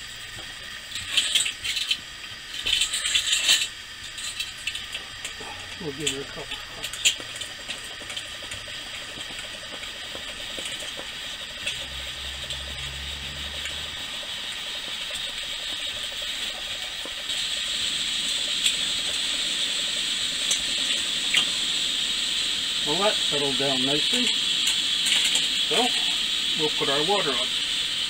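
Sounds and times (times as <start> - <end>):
camp stove hissing: 0.0 - 28.0.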